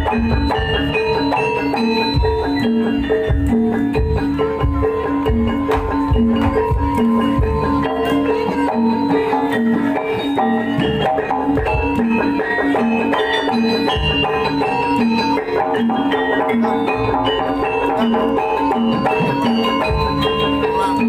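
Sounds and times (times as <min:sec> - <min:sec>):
drum strokes: 0:00.0 - 0:21.0
gamelan metallophones playing: 0:00.0 - 0:21.0.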